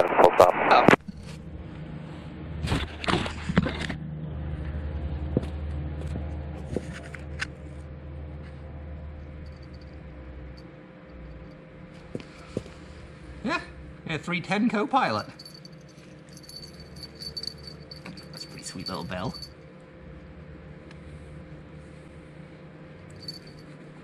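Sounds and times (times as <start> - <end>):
low steady hangar hum: 0.1 - 24.0.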